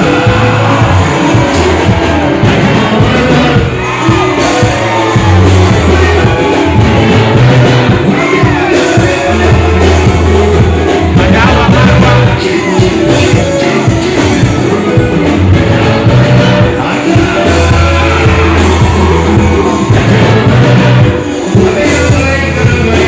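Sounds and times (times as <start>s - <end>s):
bass line: 0.0s - 23.0s
live band music: 0.0s - 23.0s
person singing: 0.0s - 23.0s.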